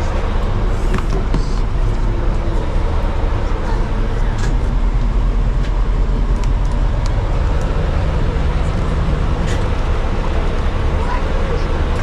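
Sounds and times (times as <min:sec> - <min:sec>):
van engine rumbling: 0:00.0 - 0:12.0.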